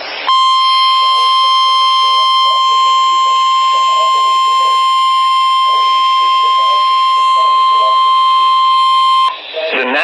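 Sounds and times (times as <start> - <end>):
radio static burst: 0.0 - 10.0
high steady alarm tone: 0.3 - 9.4.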